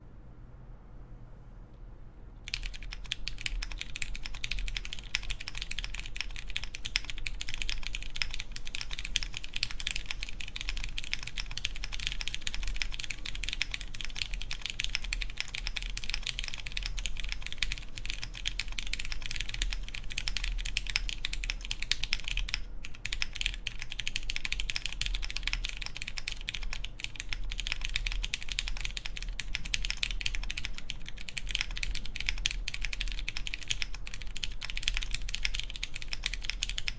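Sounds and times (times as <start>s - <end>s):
mechanical keyboard typing: 2.5s - 36.9s.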